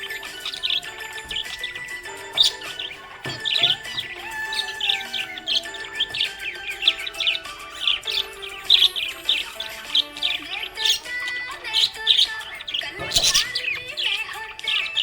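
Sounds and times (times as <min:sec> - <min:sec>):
background music with held notes: 0:00.0 - 0:15.0
budgerigars chirping: 0:00.0 - 0:15.0.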